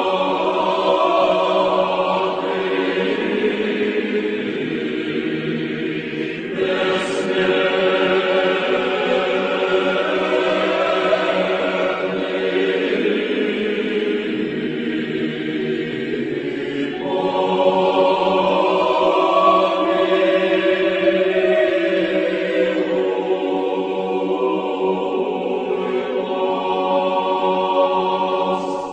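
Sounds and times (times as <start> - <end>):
choir singing slow chant: 0.0 - 28.9.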